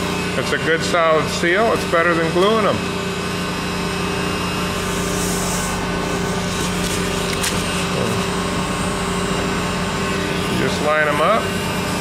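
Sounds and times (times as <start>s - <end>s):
heat gun blower humming: 0.0s - 12.0s.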